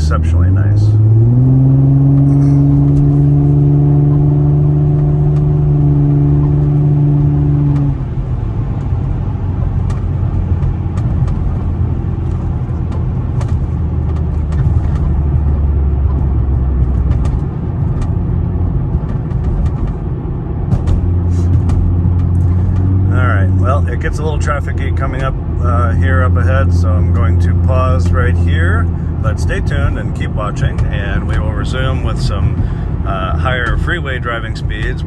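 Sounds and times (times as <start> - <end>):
car engine drone inside cabin: 0.0 - 35.0.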